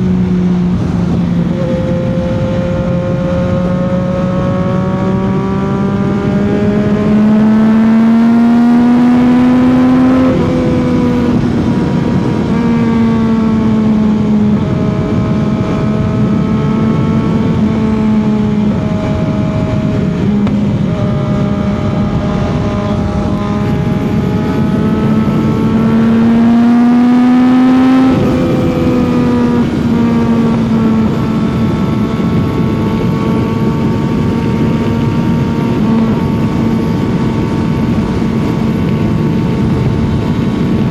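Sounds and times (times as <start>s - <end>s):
motorcycle engine revving: 0.0s - 40.9s
wind noise: 0.0s - 40.9s.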